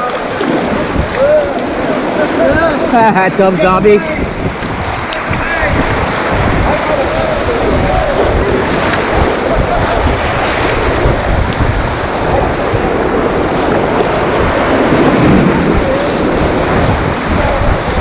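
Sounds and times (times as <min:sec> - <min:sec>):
river rapids rushing: 0:00.0 - 0:18.0
wind buffeting microphone: 0:00.0 - 0:18.0.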